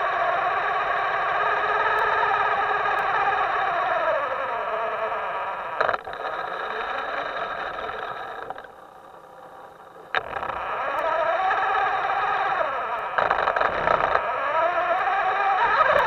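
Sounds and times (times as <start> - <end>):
electric motor whining: 0.0 - 16.0
sharp clicks: 0.0 - 16.0.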